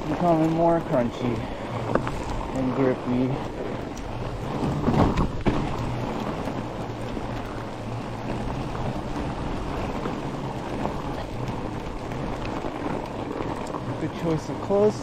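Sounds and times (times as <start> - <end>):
bike tyres rolling over snow: 0.0 - 15.0.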